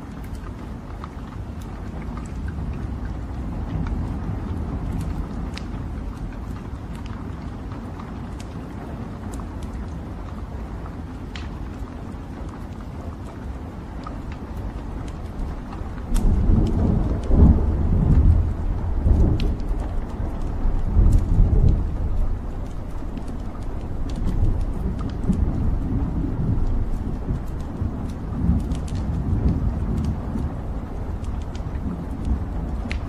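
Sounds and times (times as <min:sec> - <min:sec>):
fire flames rumbling: 0:00.0 - 0:33.0
wood crackling and popping: 0:00.0 - 0:33.0.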